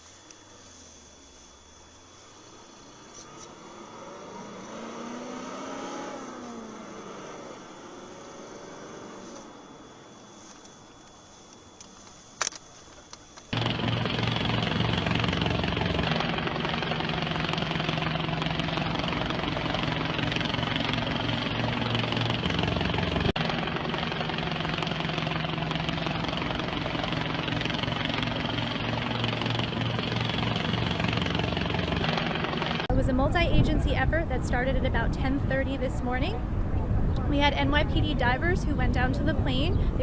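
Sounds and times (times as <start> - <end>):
aircraft engine drone: 0.0 - 40.0.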